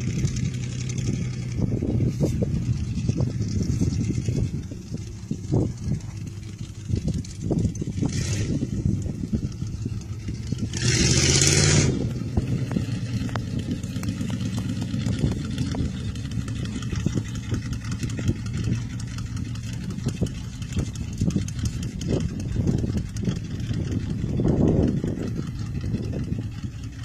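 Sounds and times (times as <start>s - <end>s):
distant truck engine exhaust: 0.0s - 27.0s.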